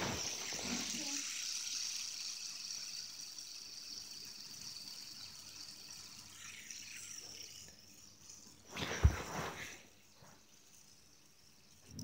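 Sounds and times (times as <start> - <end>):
fidget spinner whirring: 0.0 - 12.0.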